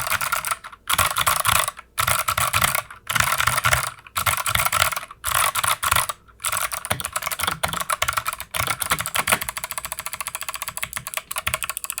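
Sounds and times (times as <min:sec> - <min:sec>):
mechanical keyboard typing clicks: 0:00.0 - 0:12.0.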